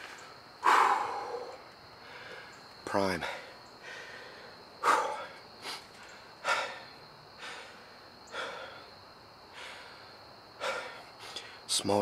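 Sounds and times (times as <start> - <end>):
man breathing hard and fast: 0.0 - 11.7.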